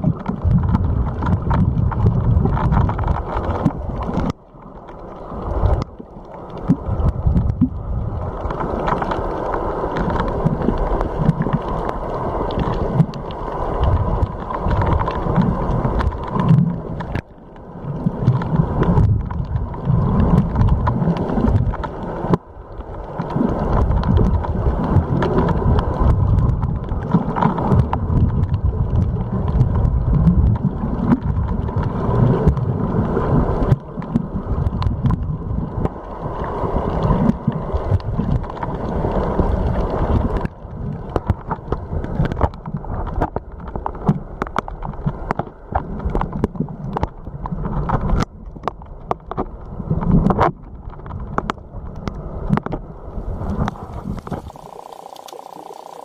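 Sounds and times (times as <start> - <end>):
wind buffeting microphone: 0.0 - 4.4, 6.6 - 17.2, 17.9 - 43.8, 45.9 - 55.1
rumbling wash of water: 0.0 - 56.0.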